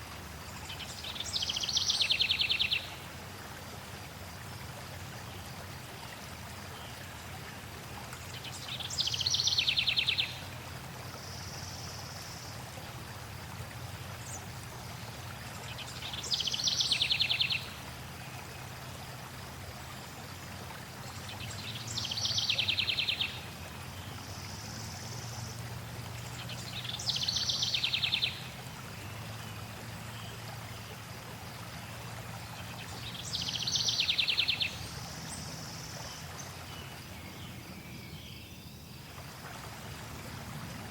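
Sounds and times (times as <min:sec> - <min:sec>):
flowing stream water: 0:00.0 - 0:40.9.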